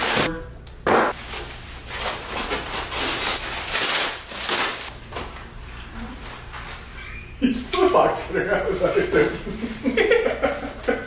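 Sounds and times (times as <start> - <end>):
plastic wrap rustling and crinkling: 1.1 - 11.0.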